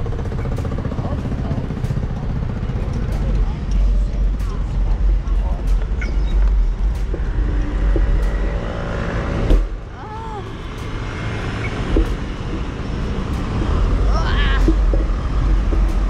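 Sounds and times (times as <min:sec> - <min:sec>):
road traffic: 0:00.0 - 0:16.0
wind rumble on microphone: 0:00.0 - 0:16.0.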